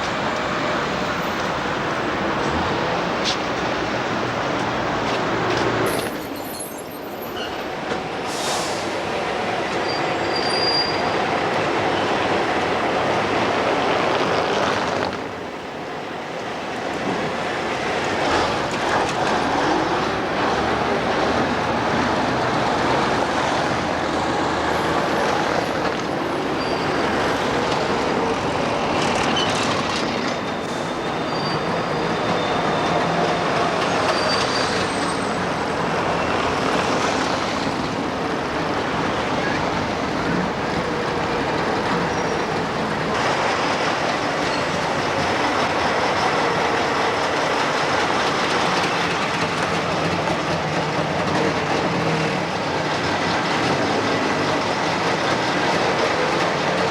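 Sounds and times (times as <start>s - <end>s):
wheels squealing on rails: 0.0s - 15.4s, 16.4s - 56.9s
traffic: 0.0s - 56.9s
tram rolling: 0.0s - 56.9s.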